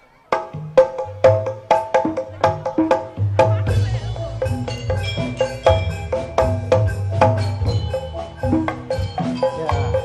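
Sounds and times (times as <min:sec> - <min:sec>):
drum strokes: 0:00.0 - 0:10.0
gamelan metallophones ringing: 0:00.0 - 0:10.0.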